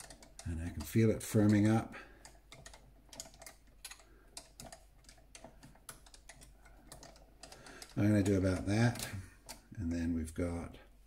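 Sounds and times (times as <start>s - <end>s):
faint metal clicking: 0.0s - 9.8s.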